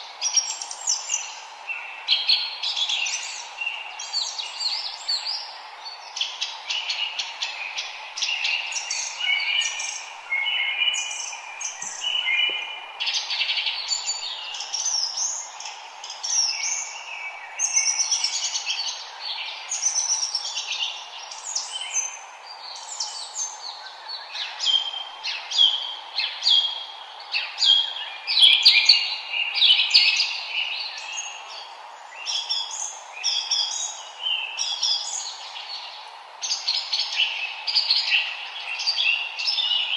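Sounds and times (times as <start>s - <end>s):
forest birds chirping and singing: 0.0s - 39.9s
steady background hiss: 0.0s - 39.9s.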